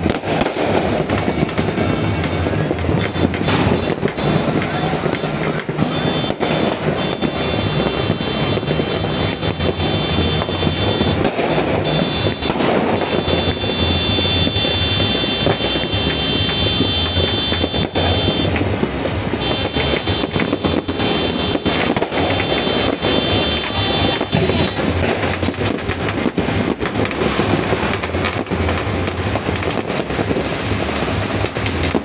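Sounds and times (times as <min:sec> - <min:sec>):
fireworks and firecrackers crackling: 0:00.0 - 0:32.0.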